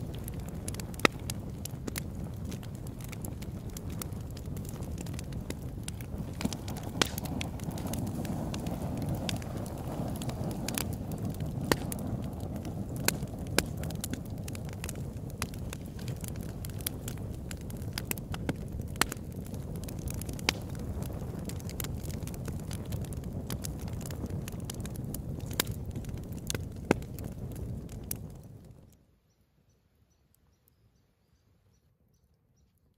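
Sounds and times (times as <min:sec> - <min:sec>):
fire low rush: 0:00.0 - 0:28.8
campfire crackling and popping: 0:00.0 - 0:29.0.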